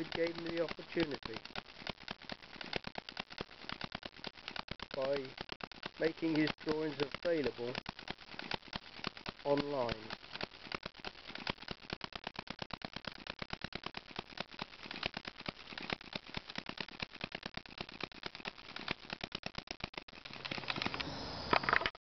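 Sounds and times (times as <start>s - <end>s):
small engine rapid clicking: 0.0s - 22.0s.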